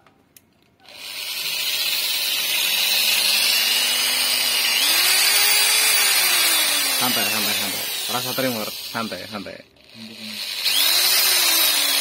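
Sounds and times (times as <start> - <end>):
electric drill motor whine: 0.9 - 12.0
grinding bit on metal: 0.9 - 12.0.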